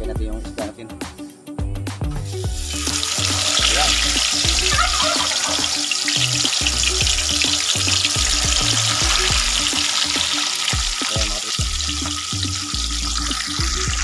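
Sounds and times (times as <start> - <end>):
music with pulsing bass: 1.6 - 10.0, 10.7 - 14.0
oil sizzling and crackling: 2.2 - 14.0.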